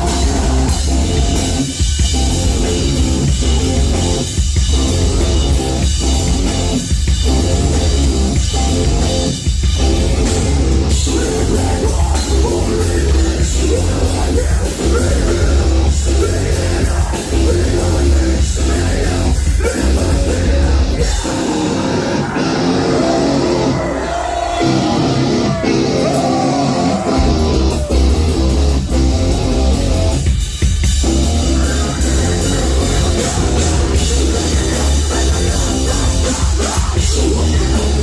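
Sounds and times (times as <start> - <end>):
heavy metal band playing live: 0.0 - 38.0.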